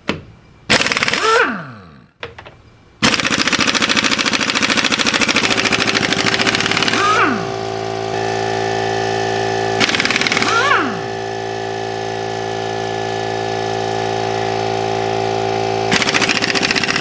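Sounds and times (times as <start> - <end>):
steady mechanical hum: 0.0 - 17.0
pneumatic impact wrench hammering: 0.7 - 17.0.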